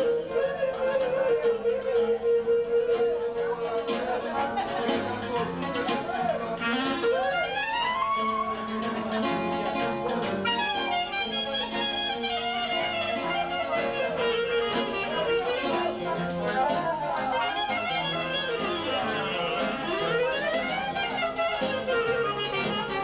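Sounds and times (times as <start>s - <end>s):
accordion: 0.0s - 23.0s
clarinet melody: 0.0s - 23.0s.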